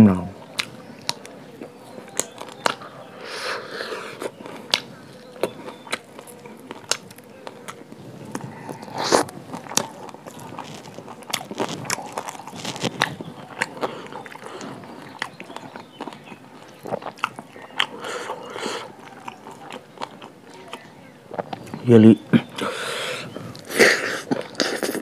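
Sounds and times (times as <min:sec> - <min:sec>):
person chewing food: 0:00.4 - 0:25.0.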